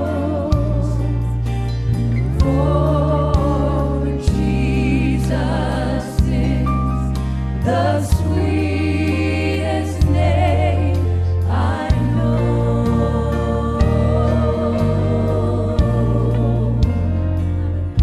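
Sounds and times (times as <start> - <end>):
low bass notes: 0.0 - 18.0
backing singers: 2.2 - 18.0.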